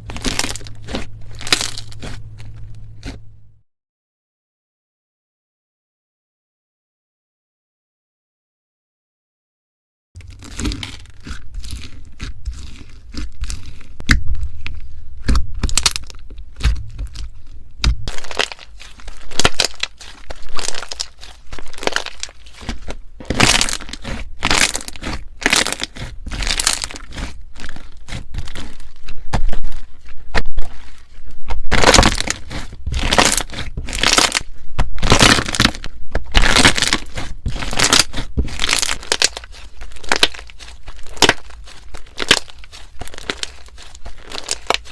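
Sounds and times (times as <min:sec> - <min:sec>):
slime crackling and popping: 0:00.0 - 0:03.2, 0:10.2 - 0:44.9.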